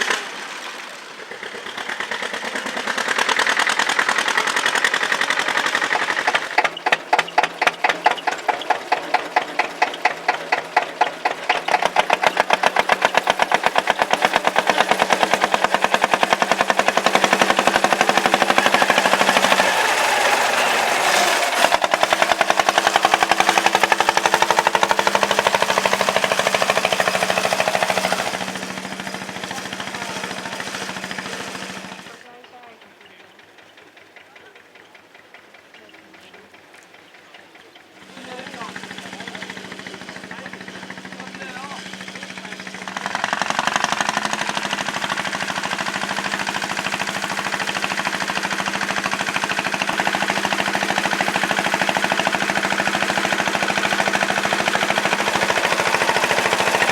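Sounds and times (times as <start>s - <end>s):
tractor engine chugging: 0.0s - 56.9s.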